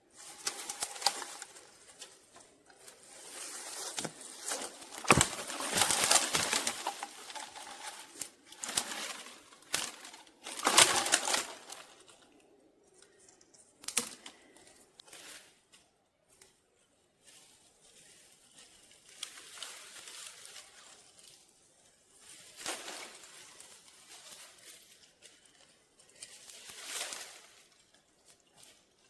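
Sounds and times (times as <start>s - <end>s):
rustling of brush and leaves: 0.0s - 29.0s.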